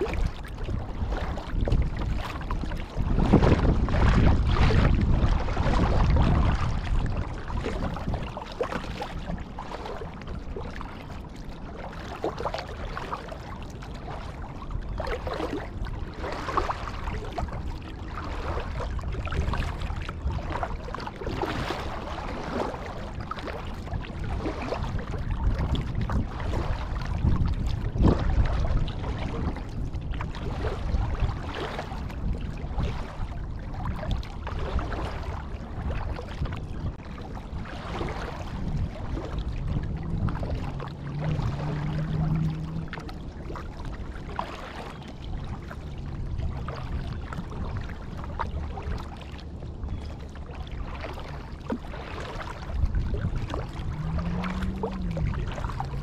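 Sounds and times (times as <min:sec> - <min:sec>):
paddle splashing in water: 0:00.0 - 0:56.0
wind rumbling on microphone: 0:00.0 - 0:56.0.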